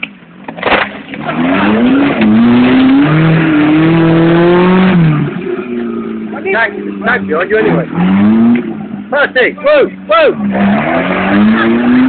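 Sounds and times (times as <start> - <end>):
engine revving hard: 1.2 - 12.0.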